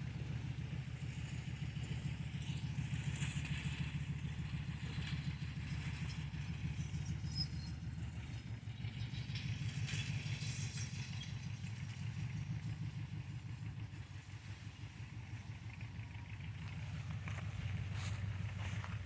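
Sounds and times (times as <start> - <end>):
faint machinery clatter: 0.0 - 19.0
tractor engine running: 0.0 - 19.0.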